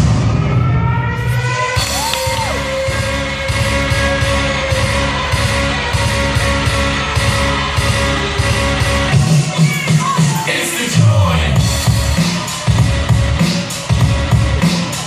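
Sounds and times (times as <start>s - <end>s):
dance music with steady beat: 0.8s - 15.0s.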